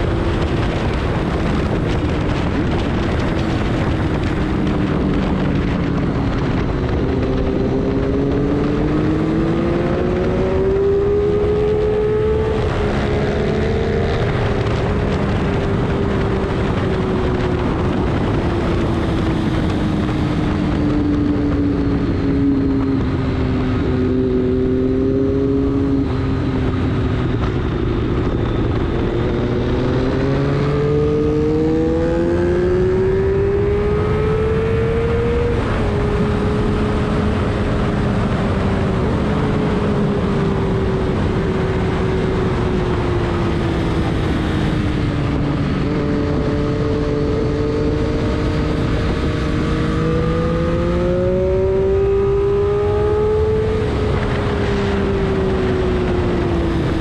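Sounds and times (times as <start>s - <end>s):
vehicle engine revving: 0.0s - 23.1s, 23.8s - 57.0s
wind and tyre noise: 0.0s - 57.0s.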